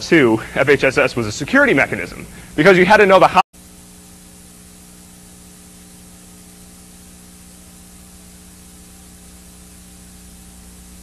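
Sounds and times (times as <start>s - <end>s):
low electrical hum: 0.0s - 11.0s
steady hiss: 0.0s - 11.0s.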